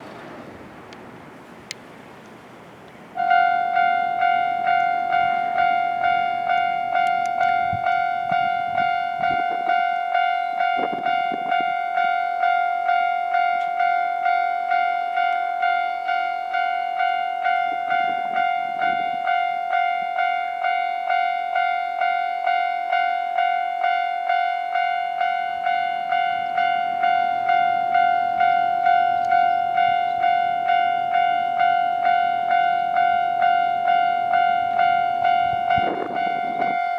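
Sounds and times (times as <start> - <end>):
level crossing warning bell: 3.2 - 36.9.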